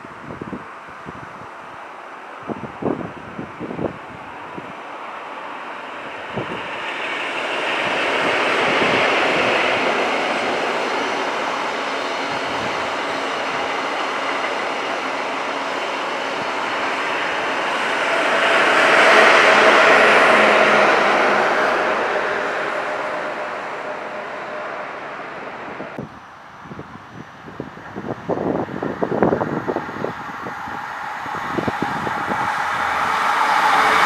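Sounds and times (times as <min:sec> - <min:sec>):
faint train engine hum: 0:00.0 - 0:34.0
train wheels rushing on rail: 0:00.0 - 0:34.0.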